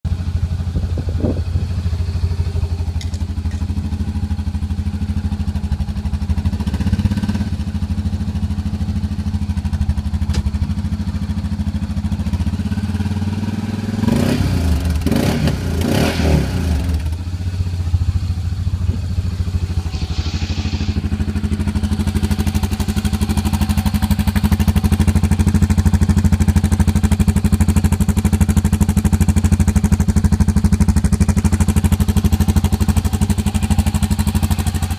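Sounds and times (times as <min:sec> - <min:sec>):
engine idling and revving: 0:00.1 - 0:34.9.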